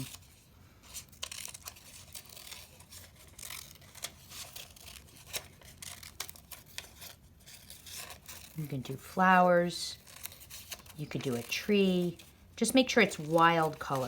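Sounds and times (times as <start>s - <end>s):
scissors snipping paper: 0.0s - 0.3s, 1.0s - 8.8s, 9.9s - 12.3s, 13.0s - 14.0s
paper crinkling: 0.0s - 14.0s.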